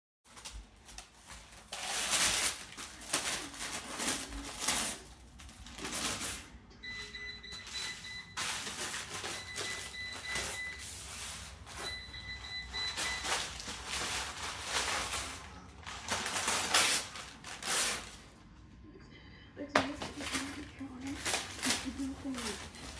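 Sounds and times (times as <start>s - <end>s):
dog ripping packaging: 0.3s - 6.5s, 7.6s - 18.5s, 19.8s - 22.9s.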